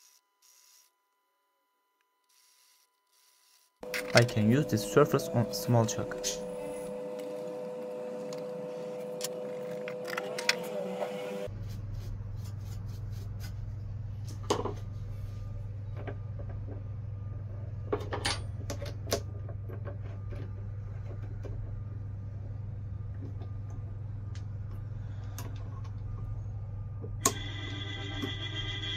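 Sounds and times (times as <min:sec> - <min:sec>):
steady machine hum: 0:03.8 - 0:12.5, 0:13.2 - 0:28.9.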